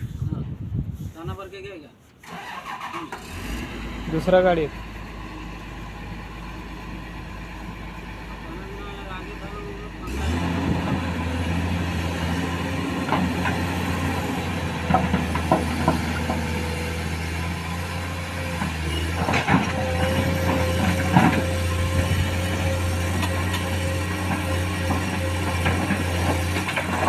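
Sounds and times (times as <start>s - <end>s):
excavator diesel engine running: 2.3s - 27.0s.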